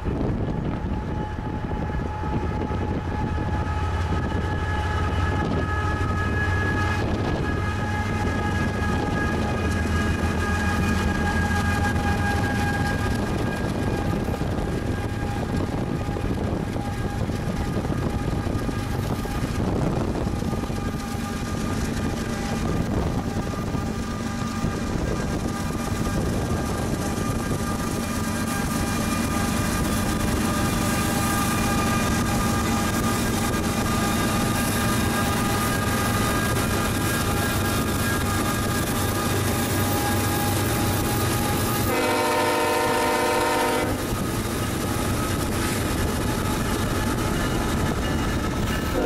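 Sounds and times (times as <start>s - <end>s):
freight train rumbling: 0.0s - 49.0s.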